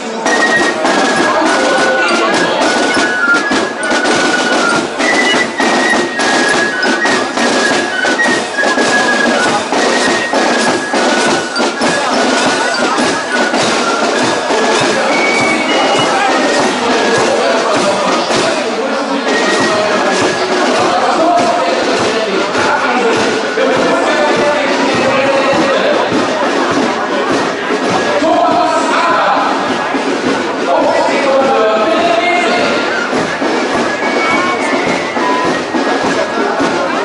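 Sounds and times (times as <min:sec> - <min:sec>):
fifes playing a tune: 0:00.0 - 0:37.0
marching drums beat: 0:00.0 - 0:37.0.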